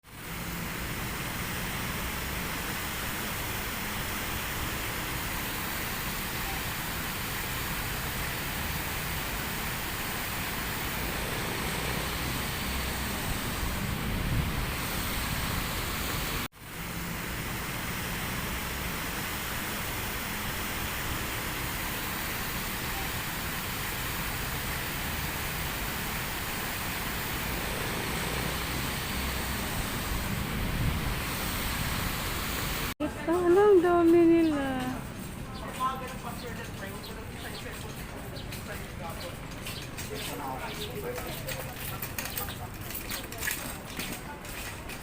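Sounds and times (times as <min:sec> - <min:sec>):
steady outdoor hiss: 0:00.0 - 0:45.0.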